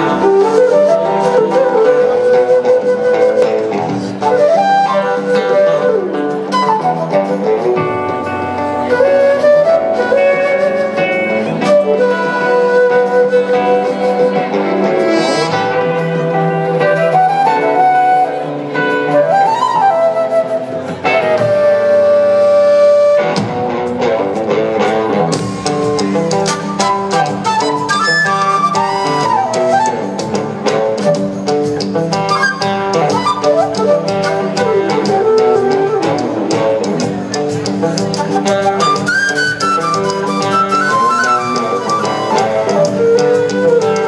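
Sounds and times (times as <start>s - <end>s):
drums: 0.0s - 44.0s
flute: 0.0s - 44.0s
slide guitar melody: 0.0s - 44.0s.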